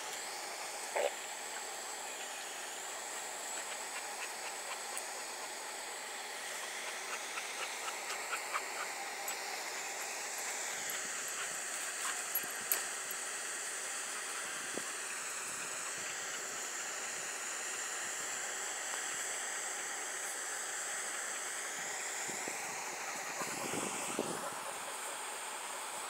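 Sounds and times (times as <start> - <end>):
outdoor background hiss: 0.0 - 26.0.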